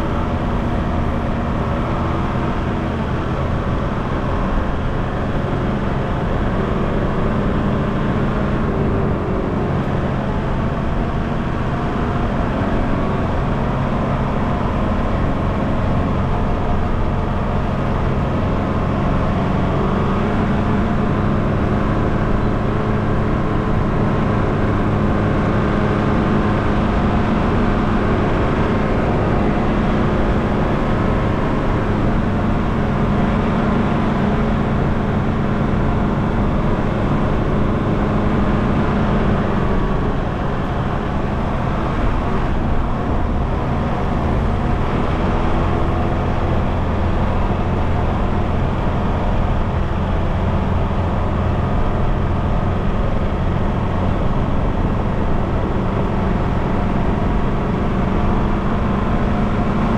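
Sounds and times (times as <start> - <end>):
car engine hum: 0.0 - 59.9
road and wind noise: 0.0 - 59.9.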